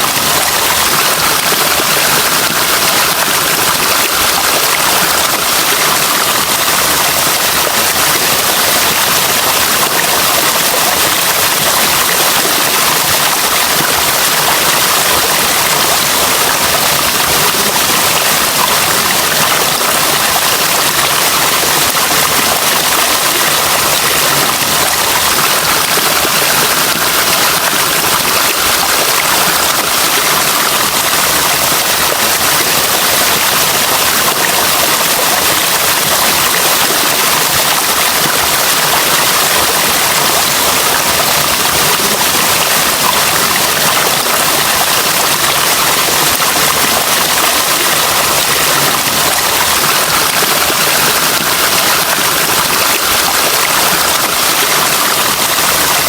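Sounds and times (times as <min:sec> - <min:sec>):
water flowing steadily: 0:00.0 - 0:56.0.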